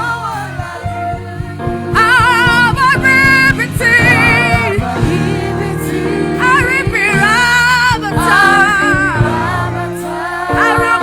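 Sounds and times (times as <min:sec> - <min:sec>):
band with steady beat: 0:00.0 - 0:11.0
choir answering: 0:00.0 - 0:11.0
lead voice singing: 0:00.0 - 0:11.0.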